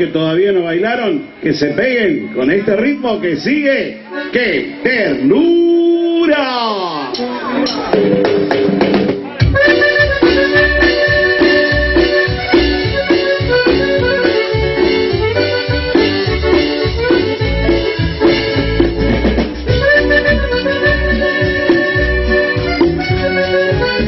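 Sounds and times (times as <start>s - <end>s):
accordion-like lead melody: 0.0s - 5.5s, 7.1s - 24.0s
live cumbia band playing: 0.0s - 24.0s.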